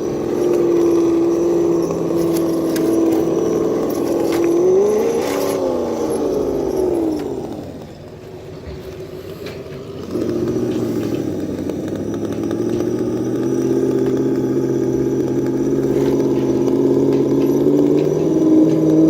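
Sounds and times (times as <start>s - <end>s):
simulated engine sound from speaker: 0.0s - 19.0s.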